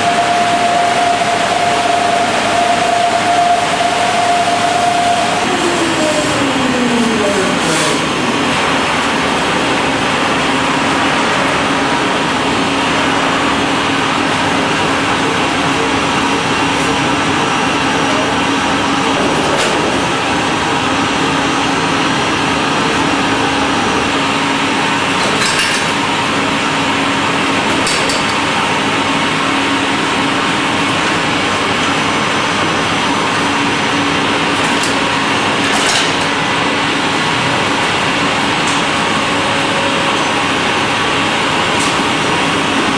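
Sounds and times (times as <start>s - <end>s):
mill machinery droning: 0.0s - 42.9s.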